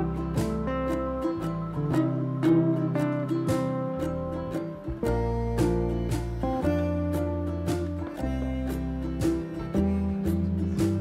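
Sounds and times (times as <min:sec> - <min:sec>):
acoustic guitar melody: 0:00.0 - 0:11.0.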